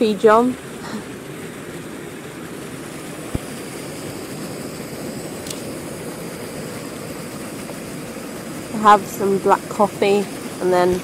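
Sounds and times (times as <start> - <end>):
gas camping stove roaring: 0.0 - 11.0.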